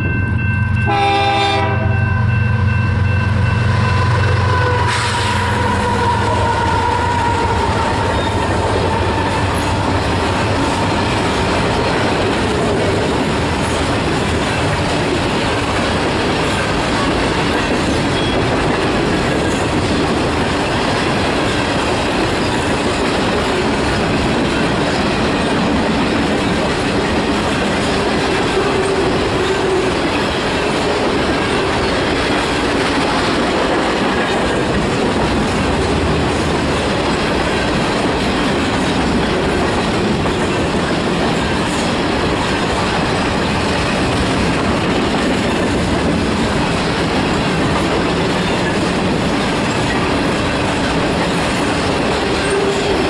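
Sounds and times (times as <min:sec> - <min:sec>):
train wheels clacking over rail joints: 0:04.4 - 0:53.0.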